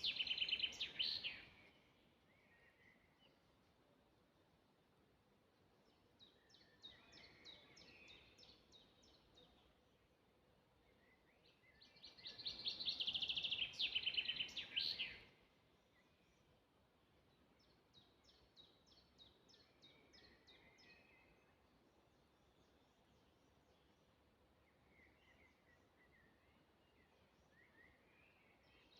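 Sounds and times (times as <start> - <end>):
songbirds singing: 0.0 - 28.9.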